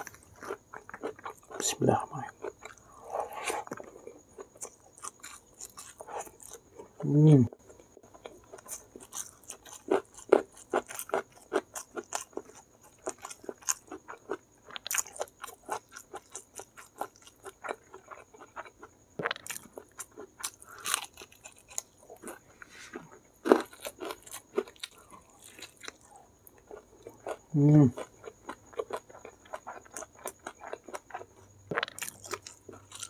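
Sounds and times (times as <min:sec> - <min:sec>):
mouth chewing crispy food: 0:00.0 - 0:33.0.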